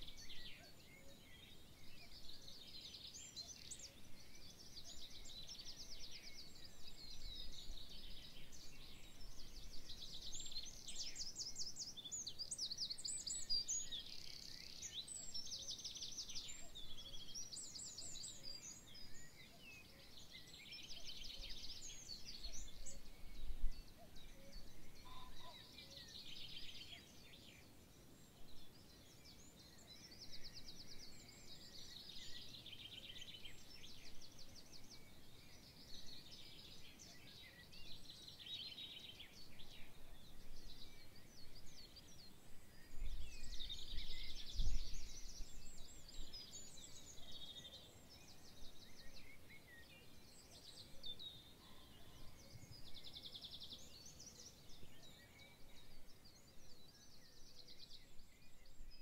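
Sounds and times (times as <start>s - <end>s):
faint background hiss: 0.0s - 59.0s
songbirds singing: 0.0s - 59.0s.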